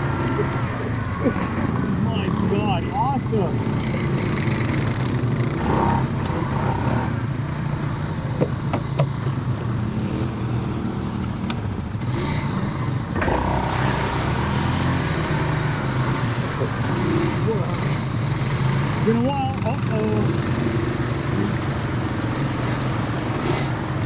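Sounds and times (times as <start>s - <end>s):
atv engines running: 0.0s - 24.0s.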